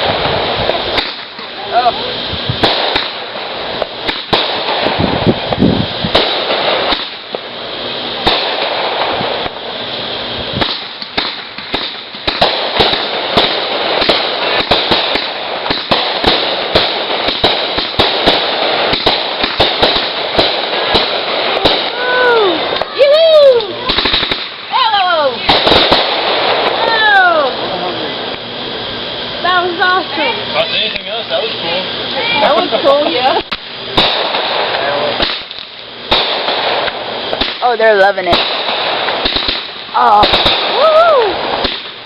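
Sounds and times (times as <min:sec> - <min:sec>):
firework crackling and pops: 0:00.0 - 0:42.0
firework whistles: 0:00.0 - 0:42.0.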